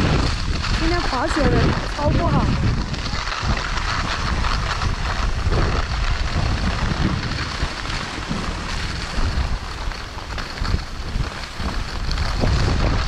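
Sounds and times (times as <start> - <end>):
skis scraping on icy snow: 0.0 - 13.0
wind buffeting microphone: 0.0 - 13.0.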